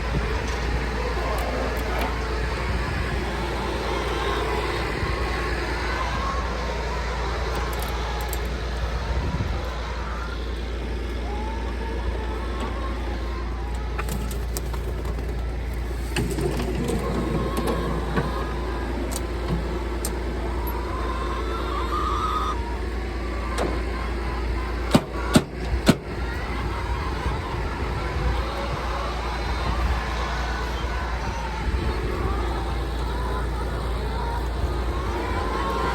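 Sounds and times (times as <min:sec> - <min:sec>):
tractor machine drone: 0:00.0 - 0:35.9.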